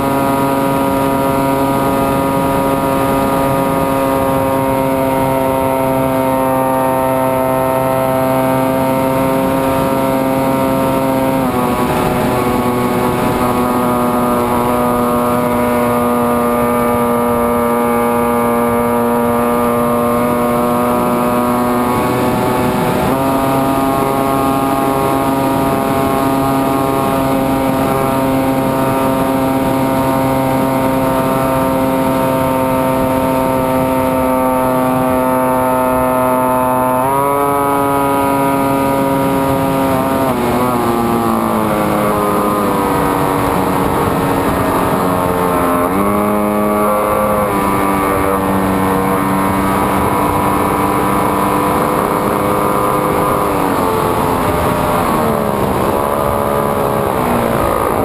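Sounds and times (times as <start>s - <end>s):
electric motor and propeller whine: 0.0s - 58.0s.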